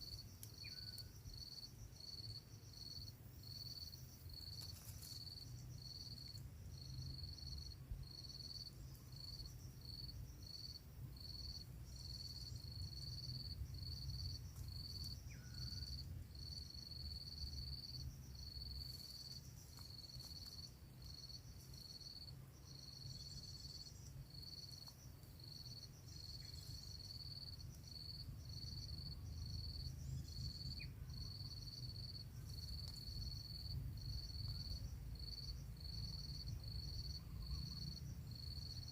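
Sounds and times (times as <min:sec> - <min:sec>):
insect chirping trill: 0:00.0 - 0:38.9.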